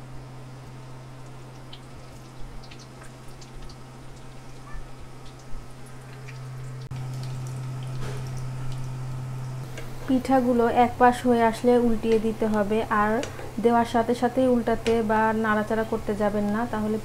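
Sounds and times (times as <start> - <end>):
low hum: 0.0 - 17.0
dough deep-frying in oil: 0.2 - 17.0.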